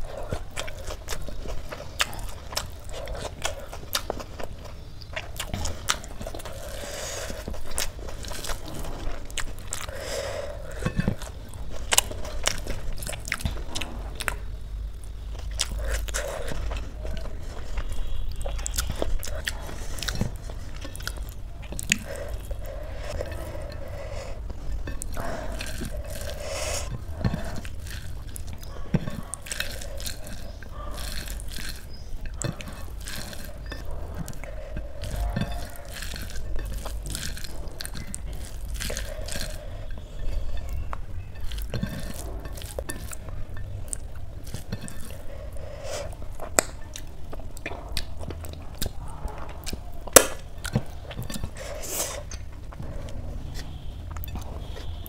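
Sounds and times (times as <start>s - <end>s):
mouth chewing: 0.0s - 55.0s
wet squishing of rice and sauce: 0.0s - 55.0s.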